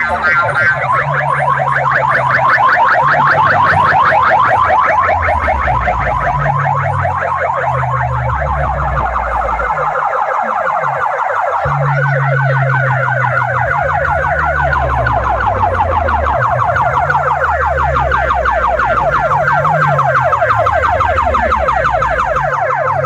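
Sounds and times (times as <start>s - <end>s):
deep bass line: 0.0s - 23.0s
electronic siren-like chirps: 0.0s - 23.0s.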